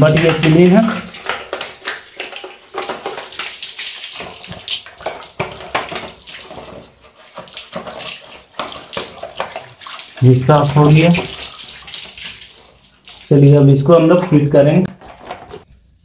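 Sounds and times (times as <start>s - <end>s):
tap water splashing on plastic: 0.0s - 15.7s.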